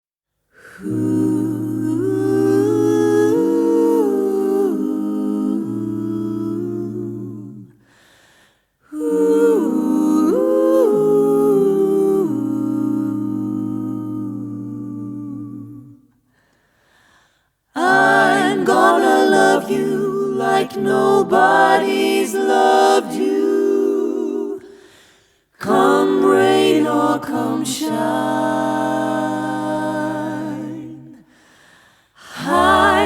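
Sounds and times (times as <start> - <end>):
a cappella vocal ensemble singing: 0.5 - 33.0.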